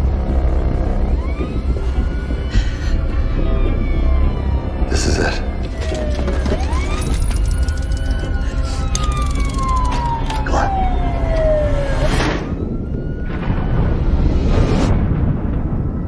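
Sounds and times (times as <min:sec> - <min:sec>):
gliding synthetic siren-like tone: 0:00.0 - 0:14.5
deep steady drone: 0:00.0 - 0:15.5.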